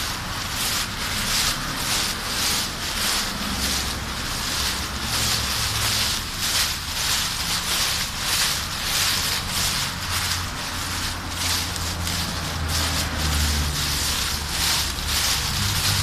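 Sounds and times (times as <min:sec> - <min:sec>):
footsteps crunching through dry leaves: 0:00.0 - 0:16.0
low steady rumble: 0:00.0 - 0:16.0.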